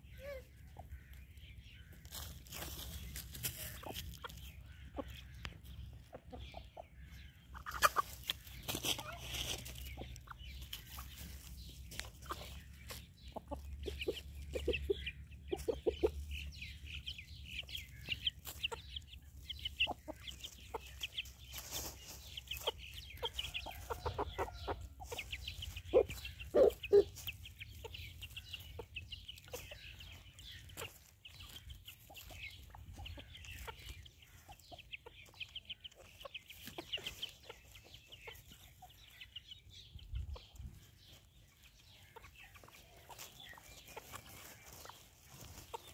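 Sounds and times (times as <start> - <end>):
chickens clucking: 0.0 - 45.9.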